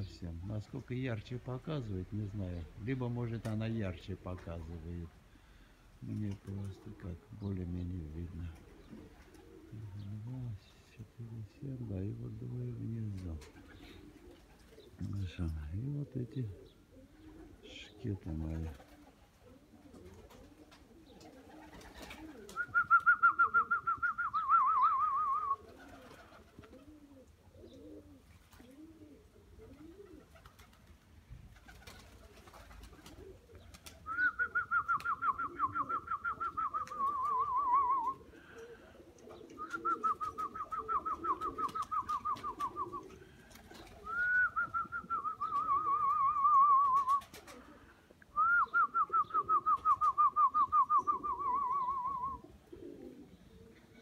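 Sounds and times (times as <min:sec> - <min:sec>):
pigeons cooing: 0:00.0 - 0:00.6, 0:01.5 - 0:54.0.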